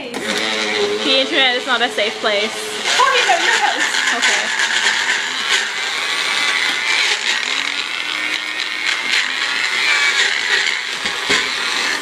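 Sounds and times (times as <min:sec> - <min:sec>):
blender motor grinding: 0:00.0 - 0:12.0.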